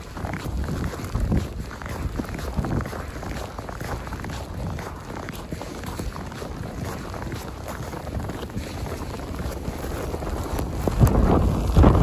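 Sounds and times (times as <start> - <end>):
footsteps crunching in snow: 0.0 - 12.0
wind rumble on microphone: 0.0 - 12.0.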